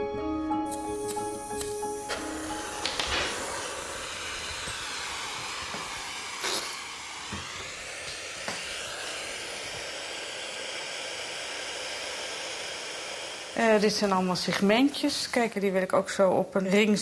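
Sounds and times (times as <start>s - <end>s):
gas torch hissing: 0.6s - 17.0s.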